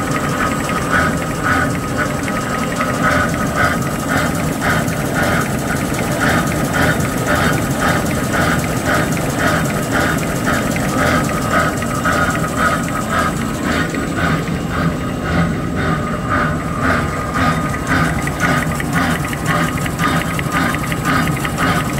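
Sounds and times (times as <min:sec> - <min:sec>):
folding machine running: 0:00.0 - 0:21.9.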